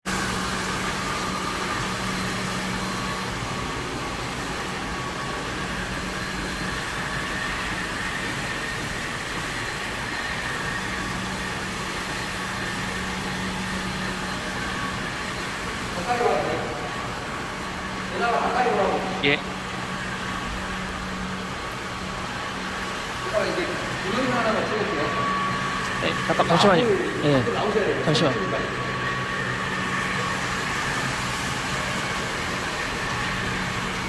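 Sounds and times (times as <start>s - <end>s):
floor scrubber humming and whining: 0.0s - 34.0s.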